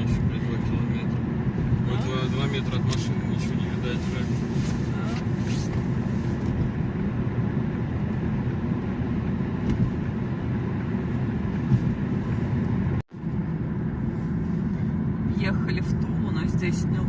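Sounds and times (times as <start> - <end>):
road and engine noise in car: 0.0 - 17.0.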